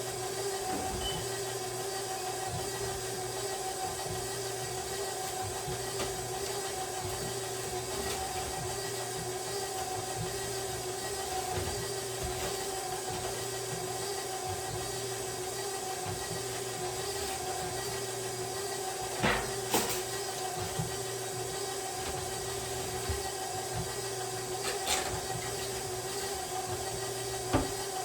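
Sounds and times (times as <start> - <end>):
stand mixer running: 0.0 - 28.0.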